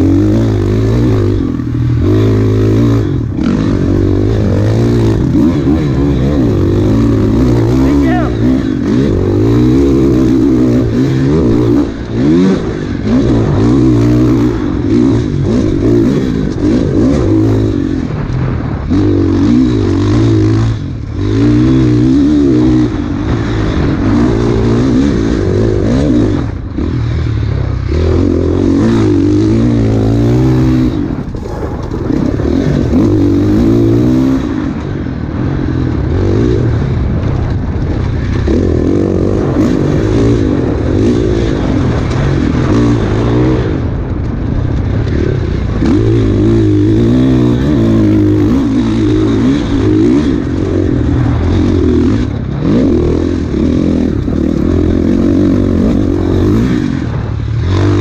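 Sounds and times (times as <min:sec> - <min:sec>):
bike rattling over rough ground: 0:00.0 - 0:58.0
dirt bike engine revving: 0:00.0 - 0:58.0.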